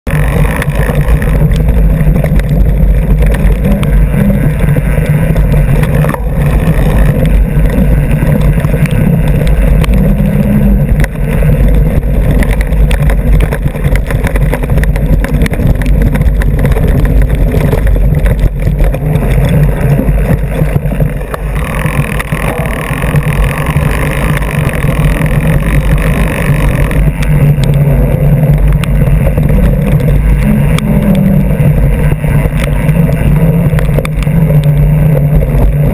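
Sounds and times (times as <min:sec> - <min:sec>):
wind on microphone: 0:00.0 - 0:35.9
bike rattling: 0:00.1 - 0:35.9.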